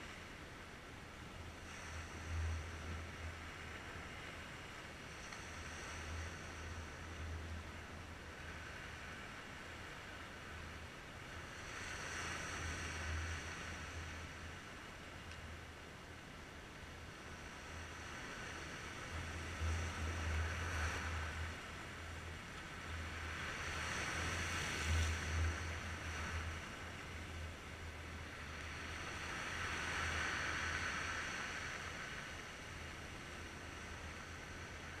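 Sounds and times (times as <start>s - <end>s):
wind rumble on microphone: 0.0s - 35.0s.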